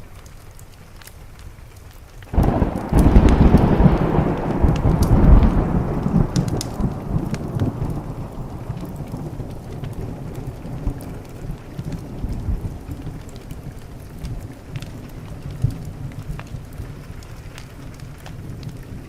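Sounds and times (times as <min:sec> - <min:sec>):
rain hissing: 0:00.0 - 0:19.0
wood fire crackling: 0:00.0 - 0:19.0
thunder rumbling: 0:02.3 - 0:19.0.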